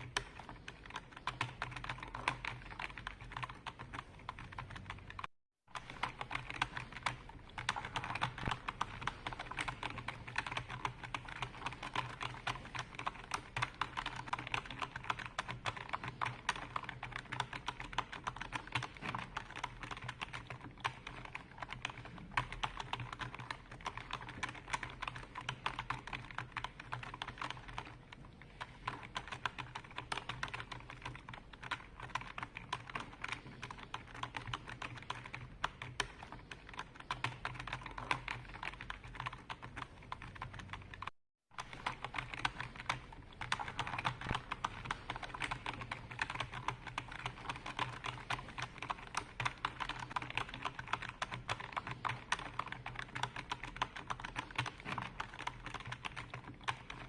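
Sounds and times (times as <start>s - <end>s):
typing on computer keyboard: 0.0s - 57.0s.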